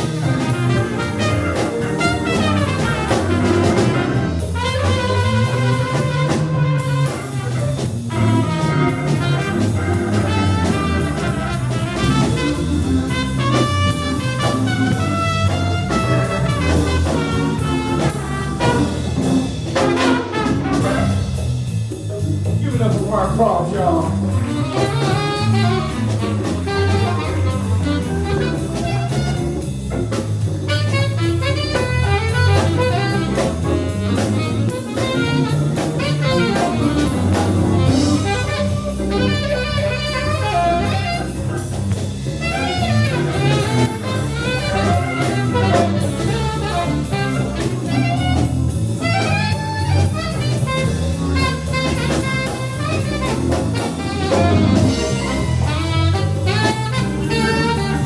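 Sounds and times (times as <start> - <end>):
bass: 0.0 - 58.0
drum kit: 0.0 - 58.0
saxophone lead line: 0.0 - 58.0.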